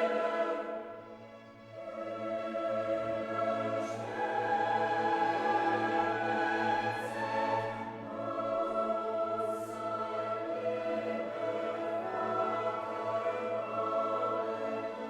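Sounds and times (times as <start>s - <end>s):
choir singing with orchestra: 0.0s - 15.0s.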